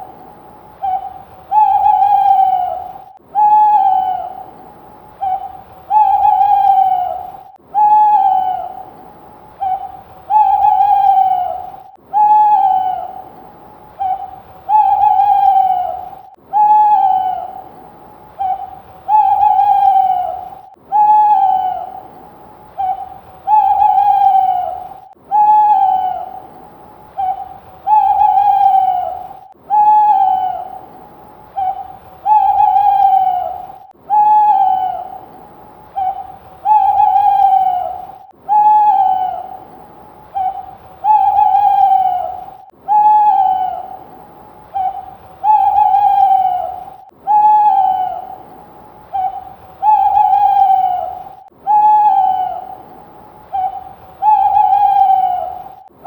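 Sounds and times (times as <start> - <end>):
screech owl calling: 0.0 - 56.0.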